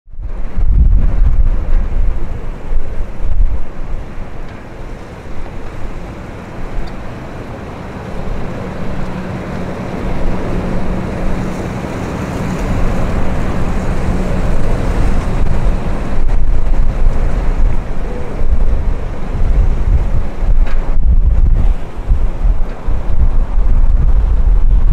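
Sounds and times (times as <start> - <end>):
wind buffeting microphone: 0.1 - 24.9
jet engines rumbling: 0.2 - 24.9.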